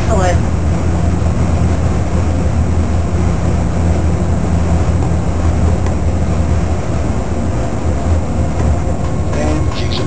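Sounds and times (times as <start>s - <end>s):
low hum: 0.0s - 10.0s
rushing noise: 0.0s - 10.0s.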